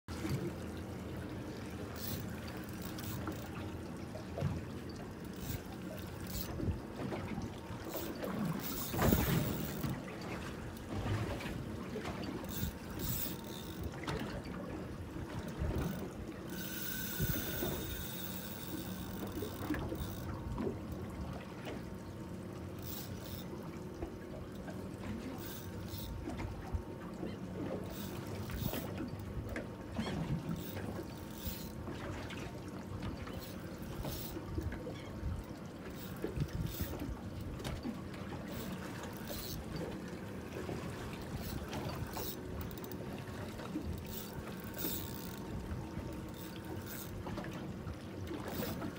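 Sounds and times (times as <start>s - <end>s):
water sloshing against hull: 0.1s - 48.9s.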